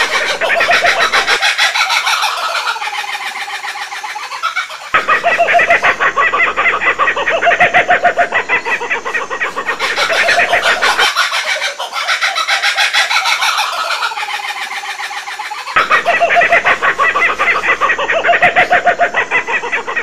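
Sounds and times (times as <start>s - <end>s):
kookaburras calling: 0.0s - 20.0s.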